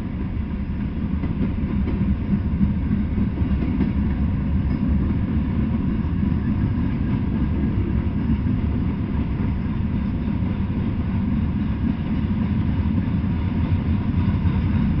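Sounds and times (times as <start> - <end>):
freight train cars rolling on rails: 0.0 - 15.0.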